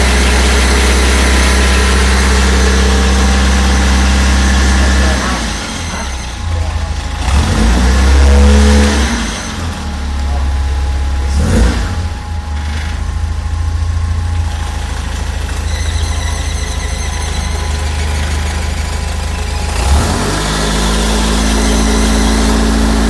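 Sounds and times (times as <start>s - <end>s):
car engine idling: 0.0s - 23.0s
mechanical noise from engine: 0.0s - 23.0s.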